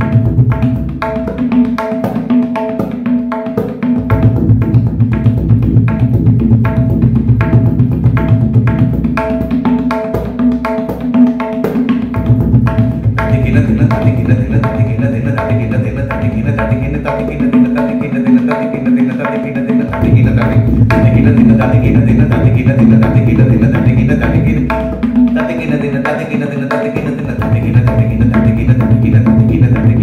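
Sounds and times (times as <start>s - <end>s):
tabla playing fast strokes: 0.0s - 30.0s.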